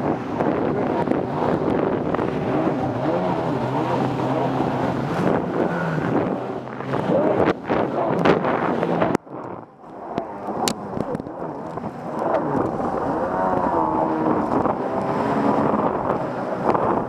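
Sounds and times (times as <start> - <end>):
jet ski engine running: 0.0 - 17.0
wind buffeting microphone: 0.0 - 17.0.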